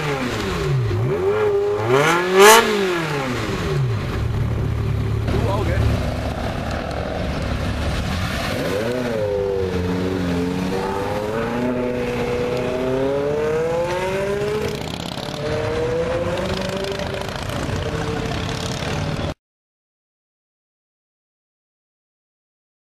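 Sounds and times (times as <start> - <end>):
car engine accelerating: 0.0 - 19.4.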